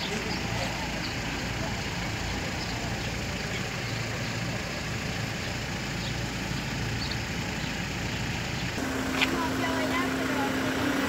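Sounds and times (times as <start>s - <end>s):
street noise hiss: 0.0s - 11.0s
vehicle engine idling: 0.0s - 11.0s.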